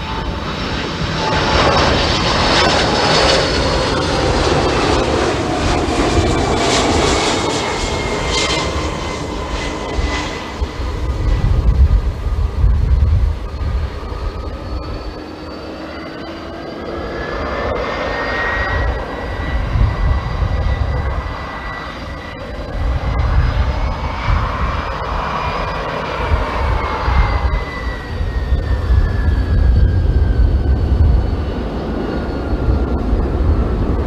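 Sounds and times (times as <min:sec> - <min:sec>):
jet engines whining: 0:00.0 - 0:34.0.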